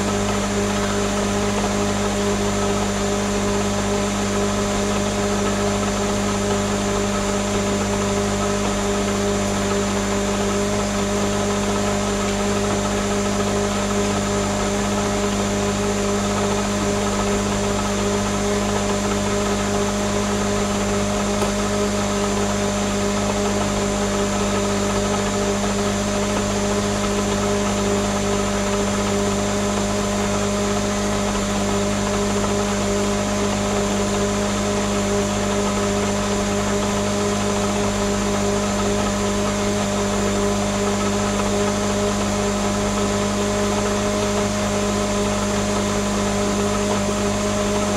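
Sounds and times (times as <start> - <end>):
blender motor running: 0.0 - 47.9.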